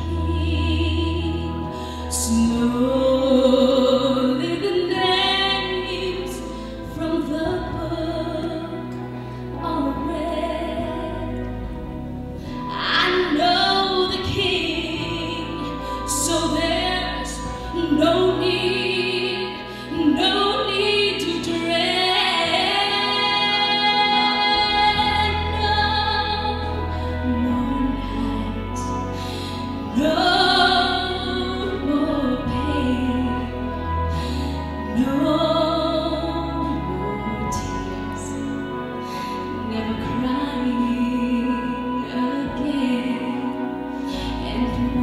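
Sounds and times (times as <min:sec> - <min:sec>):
woman singing gospel: 0:00.0 - 0:09.0, 0:12.7 - 0:29.2, 0:29.8 - 0:34.1, 0:34.8 - 0:45.0.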